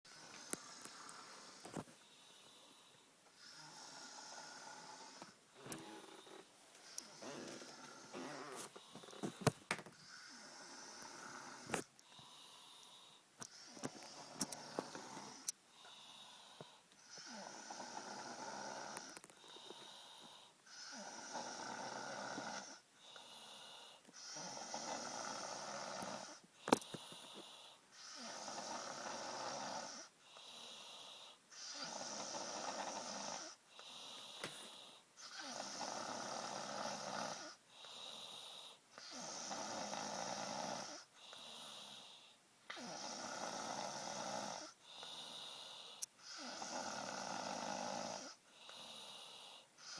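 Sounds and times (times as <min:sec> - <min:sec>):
girl snoring: 0:03.4 - 0:49.9.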